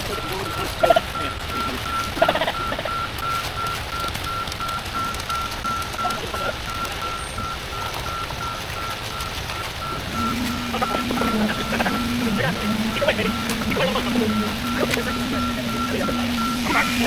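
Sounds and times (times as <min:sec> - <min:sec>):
reversing alarm beeping: 0:00.0 - 0:17.0
vehicle engine running: 0:00.0 - 0:17.0.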